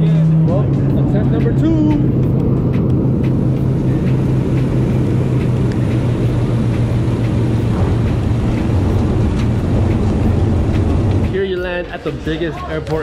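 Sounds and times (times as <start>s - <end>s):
propeller plane engine drone: 0.0s - 12.5s
rushing noise: 0.0s - 13.0s.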